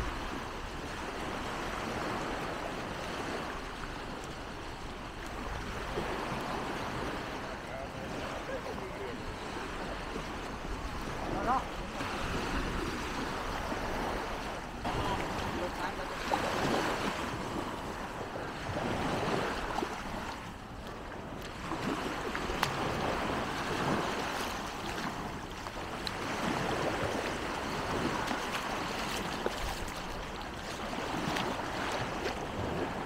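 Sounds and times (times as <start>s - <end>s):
small waves washing on sand: 0.0s - 33.0s.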